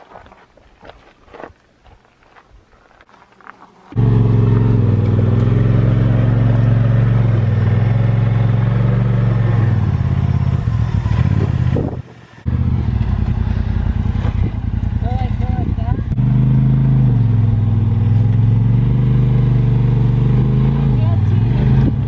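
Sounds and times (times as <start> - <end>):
engine running: 3.9 - 22.0.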